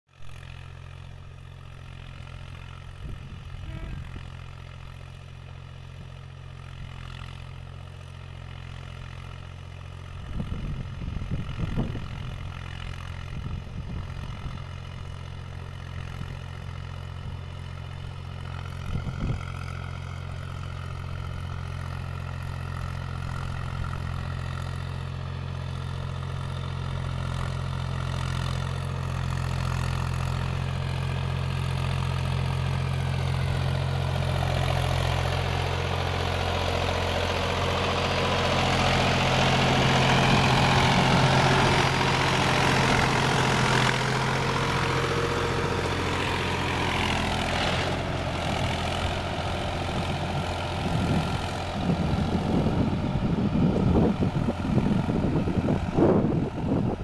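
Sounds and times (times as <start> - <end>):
tractor diesel engine running: 0.1 - 57.0.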